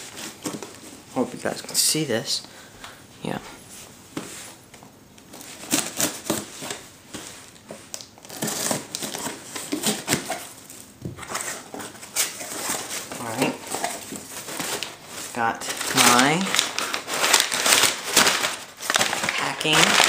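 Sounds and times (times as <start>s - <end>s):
cardboard and paper rustling: 0.0s - 1.4s, 5.3s - 20.0s.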